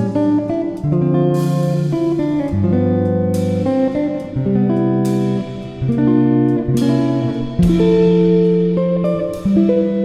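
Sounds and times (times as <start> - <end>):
guitar and bass music: 0.0 - 10.0.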